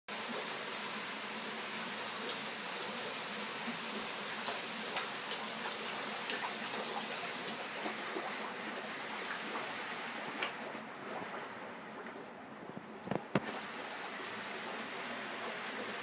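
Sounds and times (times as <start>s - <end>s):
pond water splashing: 0.1s - 16.0s.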